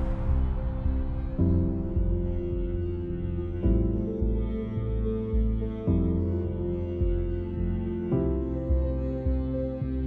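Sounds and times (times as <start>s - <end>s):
ambient synth music: 0.0s - 10.0s.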